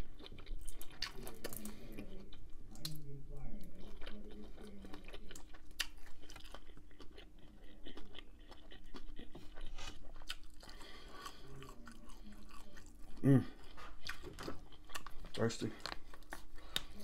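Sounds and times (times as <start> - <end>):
chewing crunches: 0.0 - 3.0, 3.7 - 17.0.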